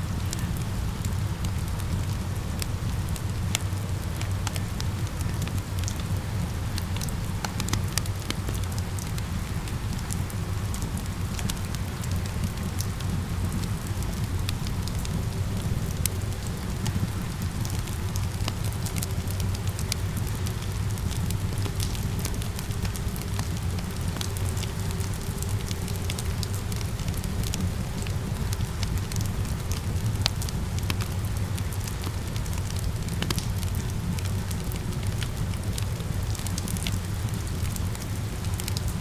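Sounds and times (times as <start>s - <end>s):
steady rain: 0.0s - 39.0s
wood fire crackling: 0.0s - 39.0s.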